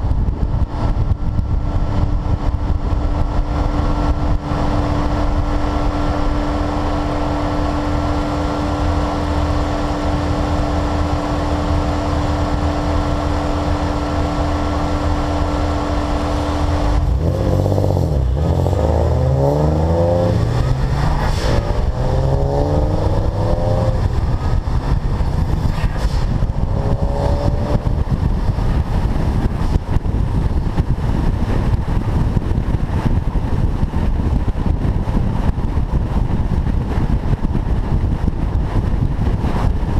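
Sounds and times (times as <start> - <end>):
car engine droning and revving: 0.0 - 39.9.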